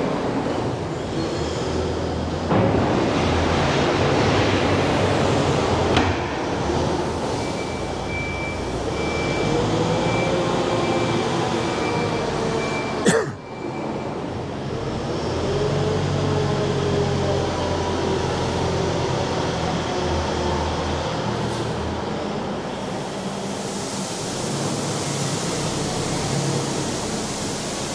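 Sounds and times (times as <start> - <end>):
diesel engine working: 3.3 - 27.9.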